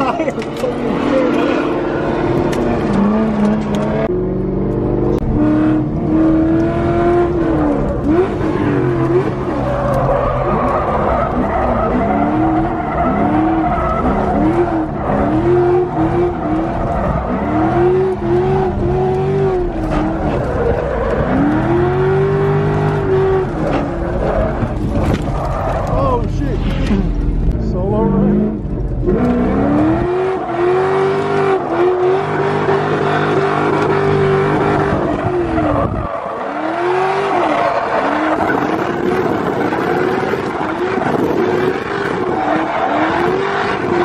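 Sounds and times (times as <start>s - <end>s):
tyres skidding and squealing: 0.0s - 4.0s, 6.9s - 44.0s
car engine revving: 0.0s - 44.0s.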